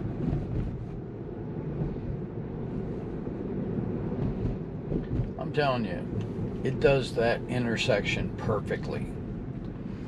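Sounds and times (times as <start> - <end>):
road and tyre noise in car: 0.0 - 10.0.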